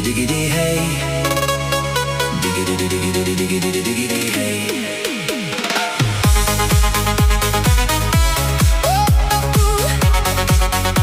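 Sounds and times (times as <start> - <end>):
electronic music with synth: 0.0 - 11.0.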